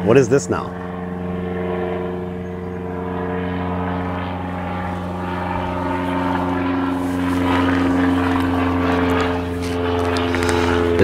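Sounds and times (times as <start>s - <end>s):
propeller airplane droning: 0.0s - 11.0s.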